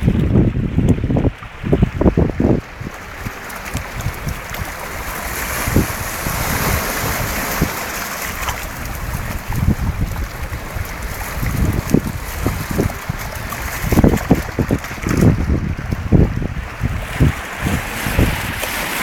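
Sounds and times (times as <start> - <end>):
small waves washing among rocks: 0.0 - 19.0
wind buffeting microphone: 0.0 - 19.0.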